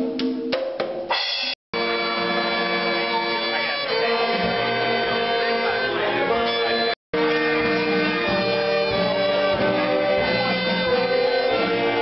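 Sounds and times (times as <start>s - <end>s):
saxophones and clarinets holding notes: 1.8s - 12.0s.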